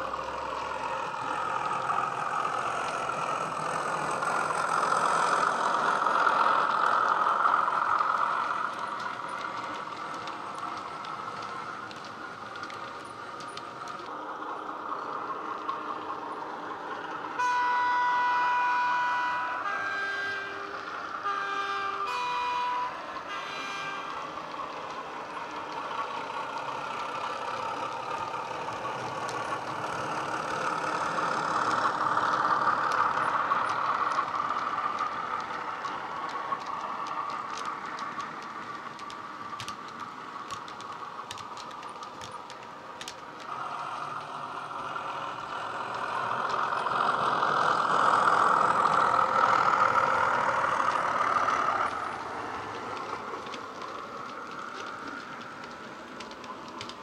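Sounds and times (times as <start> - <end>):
model locomotive diesel engine sound: 0.0 - 57.0
wheels clicking on track: 0.0 - 57.0.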